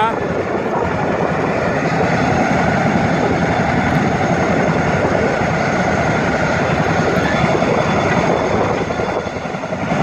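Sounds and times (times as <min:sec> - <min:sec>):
helicopters running: 0:00.0 - 0:10.0.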